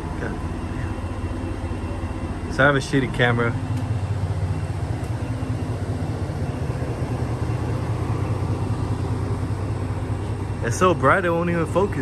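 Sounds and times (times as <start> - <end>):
pickup truck engine idling: 0.0 - 12.0.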